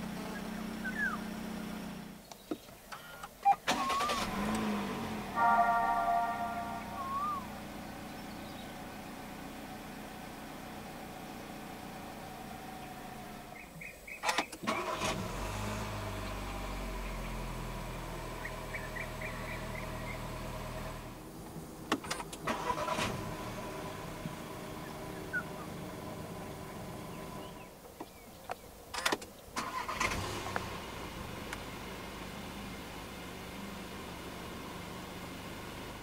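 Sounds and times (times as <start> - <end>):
car engine starting and running: 0.0 - 27.7, 29.0 - 36.0.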